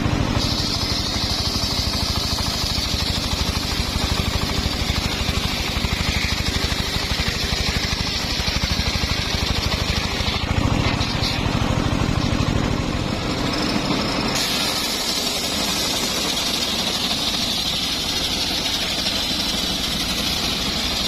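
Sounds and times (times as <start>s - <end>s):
engine-driven circular saw running: 0.0s - 21.0s
high saw whine: 0.0s - 21.0s.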